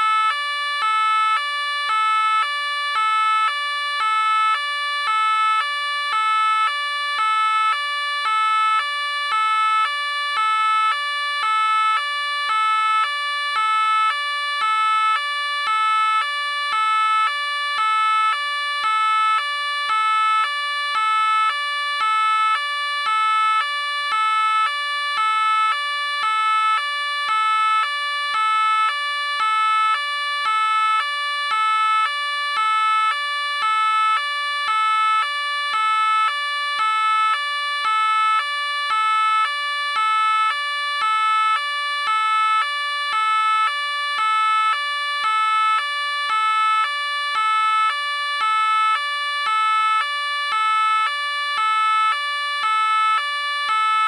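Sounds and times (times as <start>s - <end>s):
two-tone police siren: 0.0s - 54.0s.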